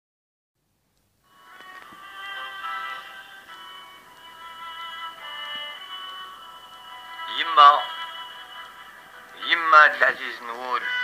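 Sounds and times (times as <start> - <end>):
instrumental music held notes: 1.2 - 11.0.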